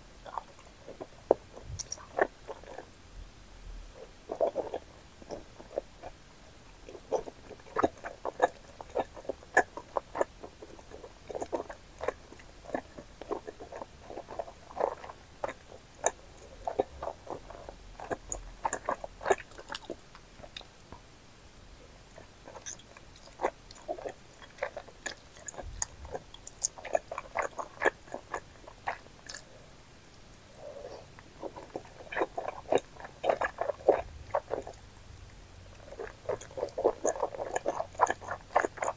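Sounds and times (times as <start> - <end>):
chewing noodles: 0.2 - 3.0, 4.0 - 6.2, 6.8 - 20.7, 22.1 - 29.6, 30.3 - 38.9.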